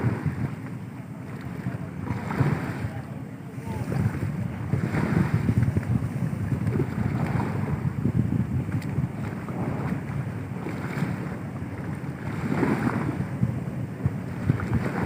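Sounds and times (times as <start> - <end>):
sea water rushing: 0.0 - 15.0
wind buffeting microphone: 0.0 - 15.0.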